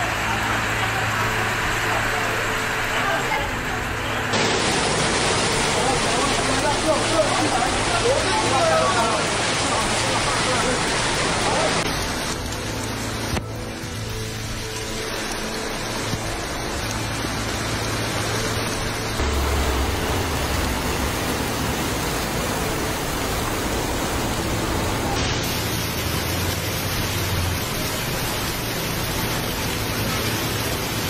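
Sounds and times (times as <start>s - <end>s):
floodwater running in street: 0.0s - 31.0s
heavy rain: 0.0s - 31.0s.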